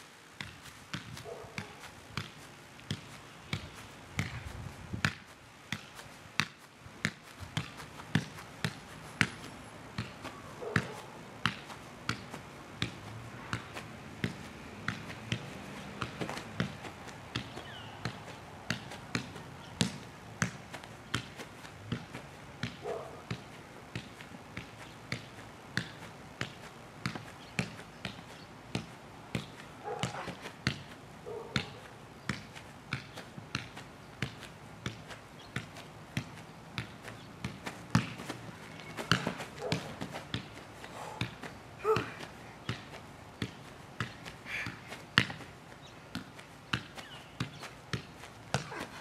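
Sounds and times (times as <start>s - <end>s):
football kicks: 0.4s - 49.0s.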